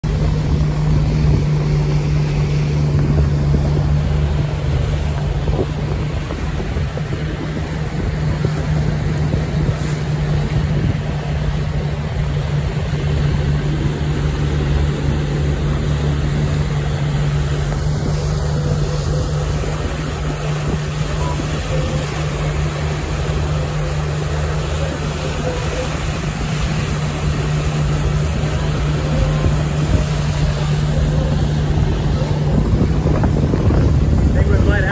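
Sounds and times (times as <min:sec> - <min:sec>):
boat motor droning: 0:00.0 - 0:34.9
wind on microphone: 0:00.0 - 0:34.9.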